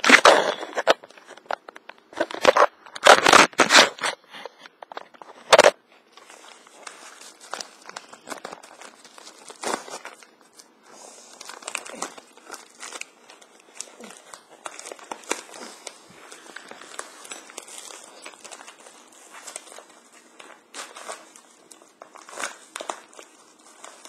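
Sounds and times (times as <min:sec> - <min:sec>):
package wrapping ripping: 0:00.0 - 0:04.2, 0:04.9 - 0:24.0
packaging rustling: 0:00.0 - 0:24.0.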